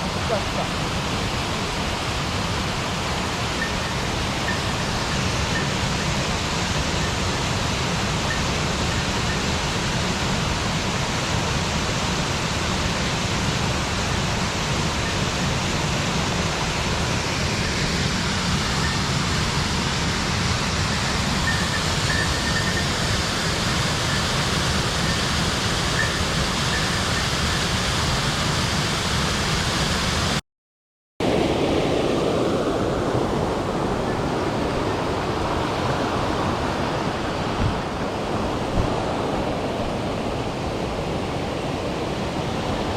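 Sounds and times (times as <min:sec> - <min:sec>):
water rushing over rocks: 0:00.0 - 0:30.2, 0:31.2 - 0:42.9.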